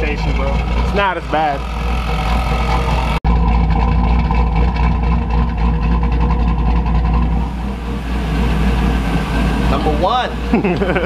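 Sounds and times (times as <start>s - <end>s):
engine idling with deep hum: 0.0s - 11.0s.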